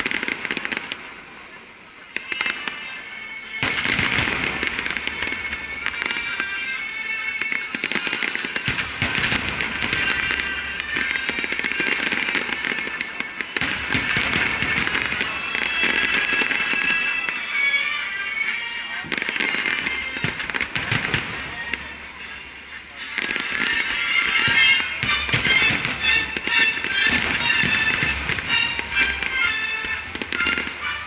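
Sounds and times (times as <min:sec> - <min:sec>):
fireworks booming: 0:00.0 - 0:01.3, 0:02.1 - 0:31.0
fireworks crackling: 0:00.0 - 0:31.0.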